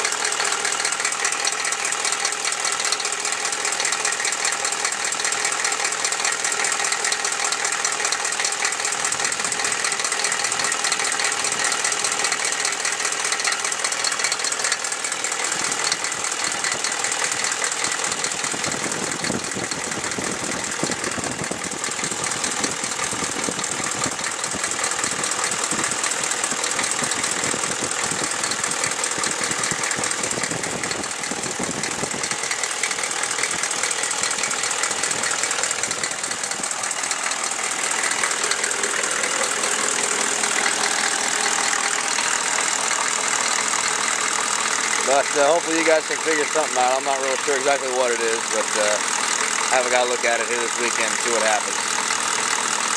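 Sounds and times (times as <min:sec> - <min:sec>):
diesel engine idling with clatter: 0:00.0 - 0:52.9.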